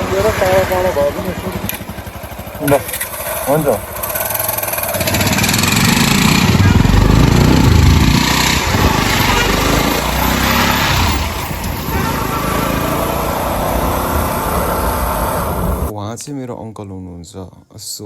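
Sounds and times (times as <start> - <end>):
motorcycle engine running: 0.0 - 15.9
steady rushing noise: 0.0 - 15.9.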